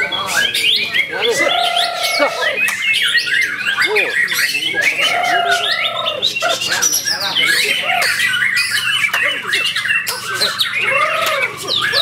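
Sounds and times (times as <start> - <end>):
other birds calling: 0.0 - 12.0.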